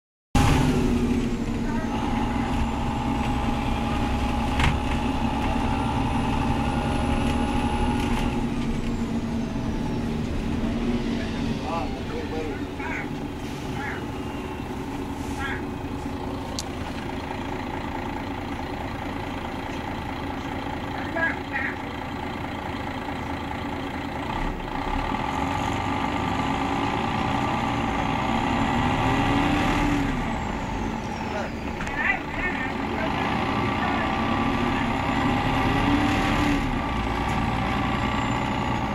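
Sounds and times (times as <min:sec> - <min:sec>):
bus engine hum from inside: 0:00.4 - 0:38.9.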